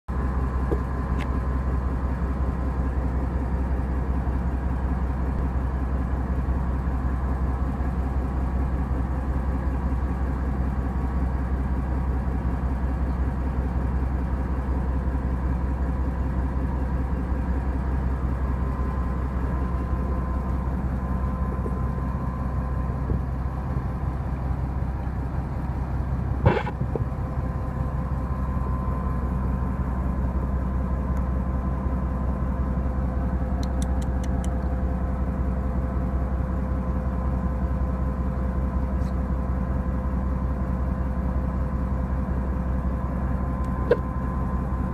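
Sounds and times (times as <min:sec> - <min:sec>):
boat engine droning: 0:00.1 - 0:44.9.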